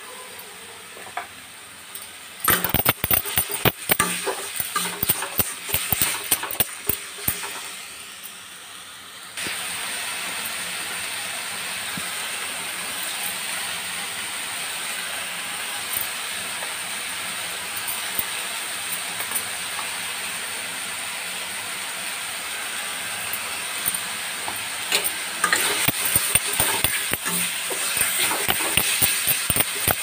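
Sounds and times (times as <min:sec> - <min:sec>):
paste sizzling in oil: 0:02.2 - 0:30.0.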